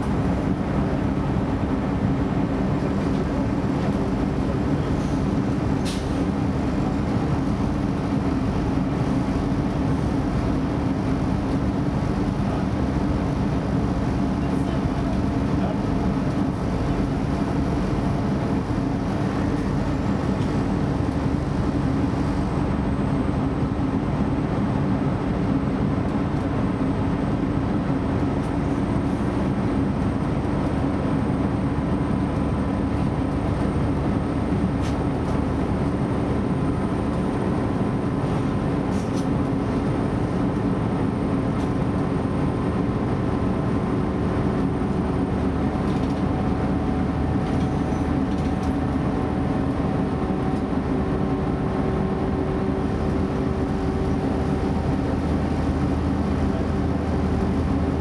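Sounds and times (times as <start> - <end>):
diesel engine and wheels rumbling: 0.0 - 58.0.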